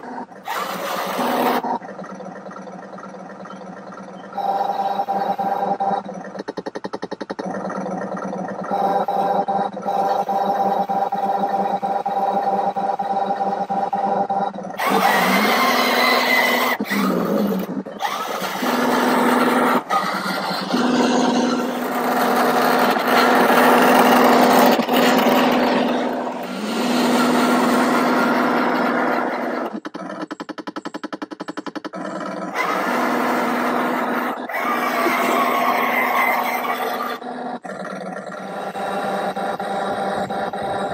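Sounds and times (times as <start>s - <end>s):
fast regular pulsing: 0.0s - 40.9s
simulated tank engine noise: 0.0s - 40.9s.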